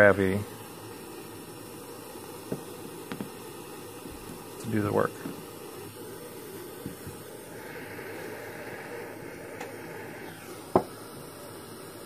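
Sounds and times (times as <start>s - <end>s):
soldering torch flame hissing: 0.0s - 12.0s.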